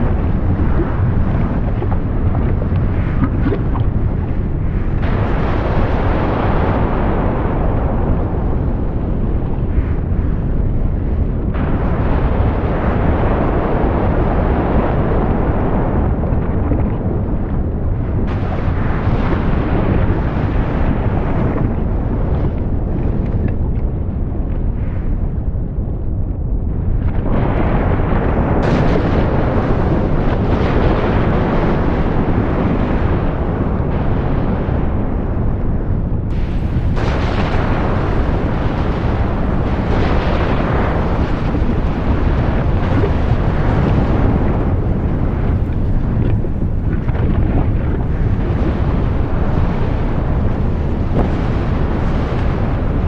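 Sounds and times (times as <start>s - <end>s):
volcanic eruption rumbling: 0.0s - 53.0s.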